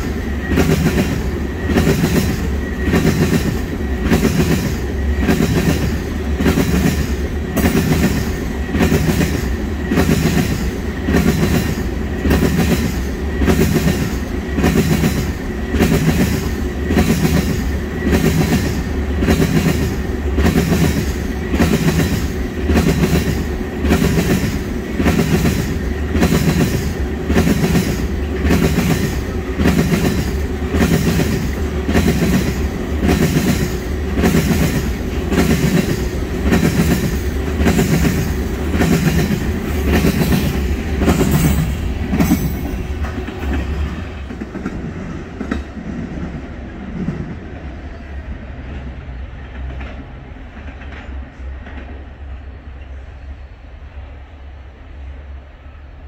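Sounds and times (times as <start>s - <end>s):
train wheels clickety-clack: 0.0s - 53.0s.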